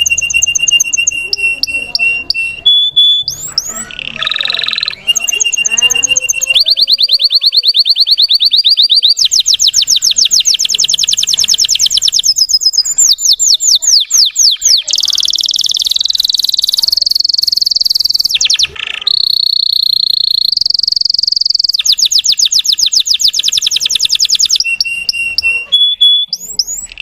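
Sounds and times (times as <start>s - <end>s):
canary singing: 0.0s - 27.0s.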